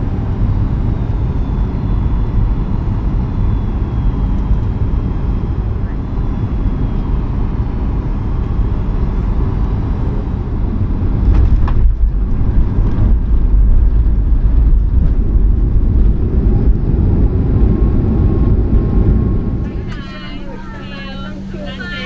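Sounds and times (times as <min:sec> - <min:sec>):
airplane cabin rumble in flight: 0:00.0 - 0:22.0.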